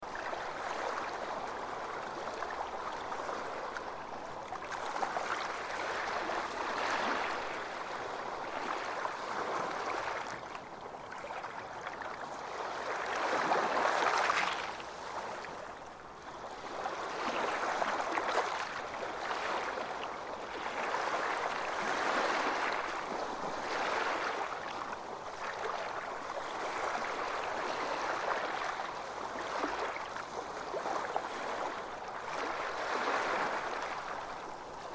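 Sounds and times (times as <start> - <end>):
ocean waves breaking on beach: 0.0 - 34.9.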